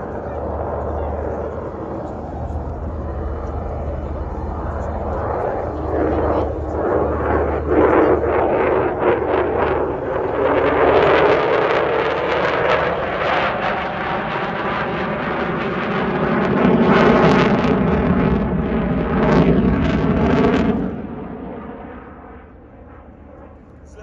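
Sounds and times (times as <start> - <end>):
fighter jet roar: 0.0 - 24.0.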